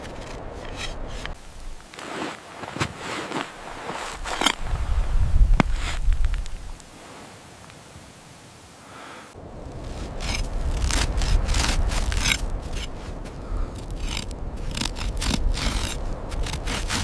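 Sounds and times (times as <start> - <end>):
snow crunching and scraping: 0.0 - 8.0, 9.5 - 17.0.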